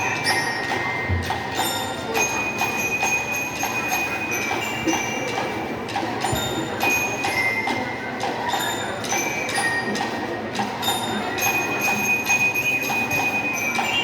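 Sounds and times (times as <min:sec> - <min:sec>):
bell-lyre metallic notes: 0:00.0 - 0:14.0.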